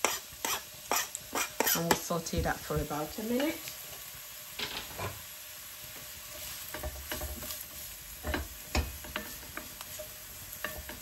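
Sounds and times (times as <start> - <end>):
onions sizzling in a pan: 0.0 - 11.0
wooden spatula scraping a pan: 0.0 - 11.0.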